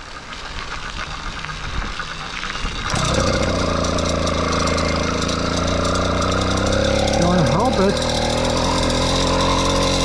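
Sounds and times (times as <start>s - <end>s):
wheels rolling: 0.0s - 10.0s
wind: 0.0s - 10.0s
two-stroke engine running: 0.4s - 10.0s.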